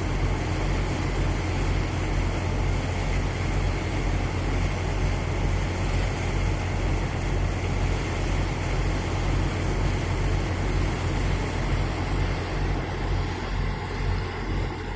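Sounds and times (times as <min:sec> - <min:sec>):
boat diesel engine pulsing hum: 0:00.0 - 0:14.9
wash of noise: 0:00.0 - 0:14.9.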